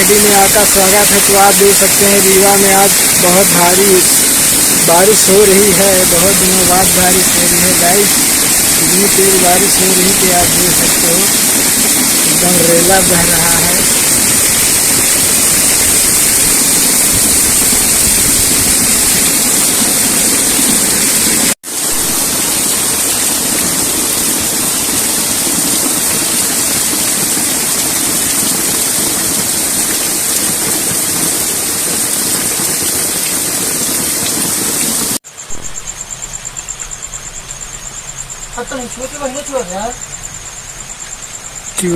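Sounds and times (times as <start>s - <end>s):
heavy rain pouring: 0.0s - 41.9s
runoff water rushing: 0.0s - 41.9s.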